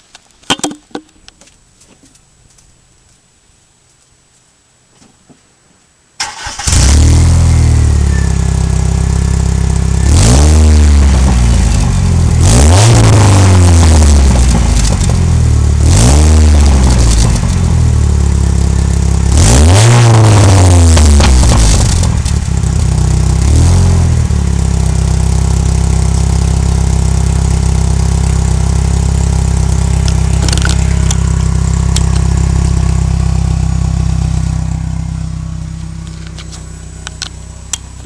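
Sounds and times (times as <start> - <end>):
car engine starting and revving: 6.2 - 38.0.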